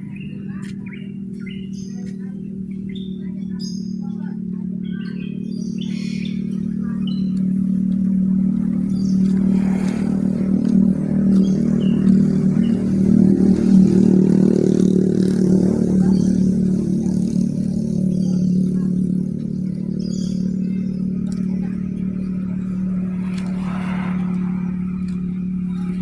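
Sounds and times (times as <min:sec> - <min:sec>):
motor hum: 0:00.0 - 0:26.0.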